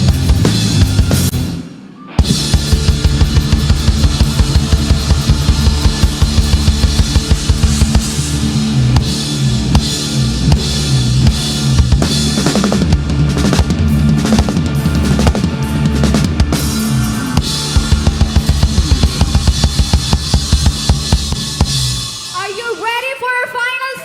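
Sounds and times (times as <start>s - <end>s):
bass guitar line: 0.0s - 22.4s
fast driving drum kit: 0.0s - 22.9s
live rock band playing: 0.0s - 23.2s.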